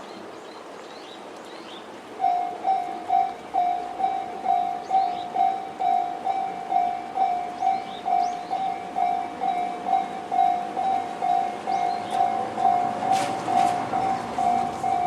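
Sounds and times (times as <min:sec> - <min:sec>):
level crossing warning bell: 0:02.2 - 0:15.0.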